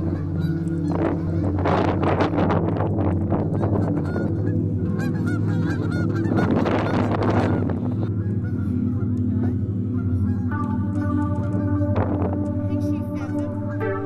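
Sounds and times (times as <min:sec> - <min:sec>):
geese honking: 0:00.0 - 0:14.0
steady low drone: 0:00.0 - 0:14.0.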